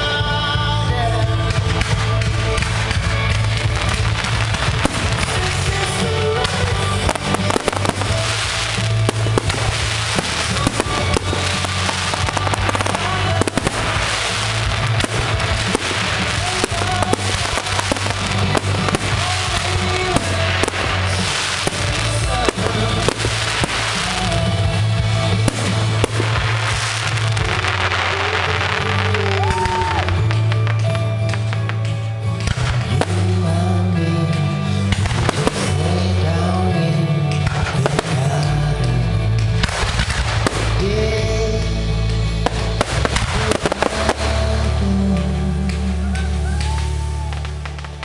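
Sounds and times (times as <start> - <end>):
fireworks bangs and crackles: 0.0 - 48.0
loud music: 0.0 - 48.0.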